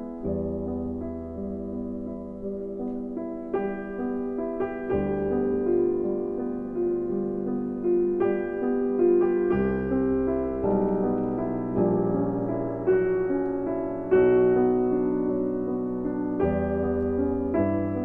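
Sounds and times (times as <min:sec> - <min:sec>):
slow piano-like keyboard melody: 0:00.0 - 0:18.0.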